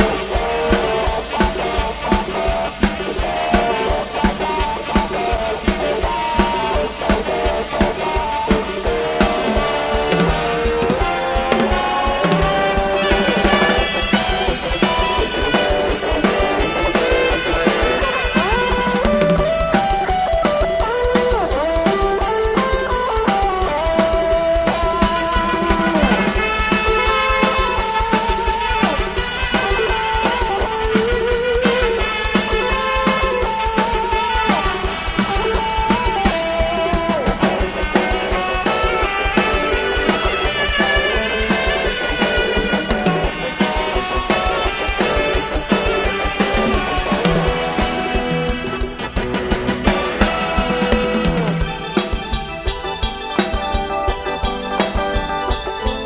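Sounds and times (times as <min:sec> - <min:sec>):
cymbals: 0:00.0 - 0:56.0
drum kit beat: 0:00.0 - 0:56.0
live band music: 0:00.0 - 0:56.0
plucked guitar-like melody: 0:06.0 - 0:56.0.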